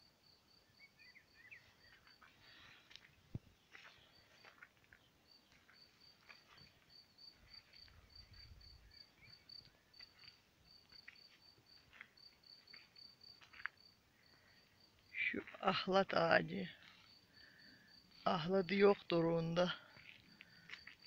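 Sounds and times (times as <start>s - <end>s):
cricket chirping: 0.0s - 21.0s.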